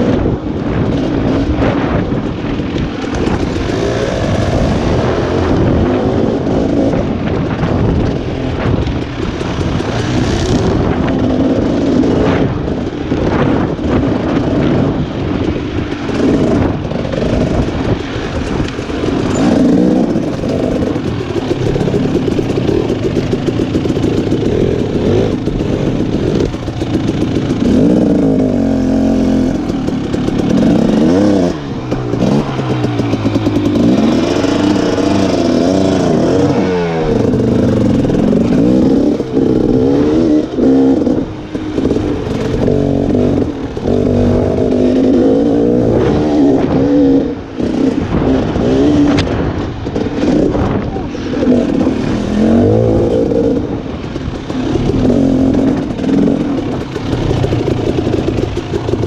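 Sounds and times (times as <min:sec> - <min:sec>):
dirt bike engine revving: 0:00.0 - 0:59.0
knocks and clatter from bike: 0:00.0 - 0:59.0.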